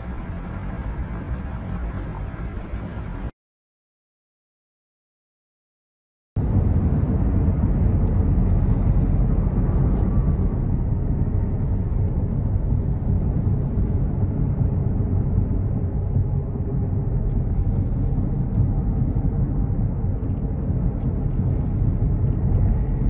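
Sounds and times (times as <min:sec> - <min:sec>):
wind and road noise inside car: 0:00.0 - 0:03.3, 0:06.4 - 0:23.0.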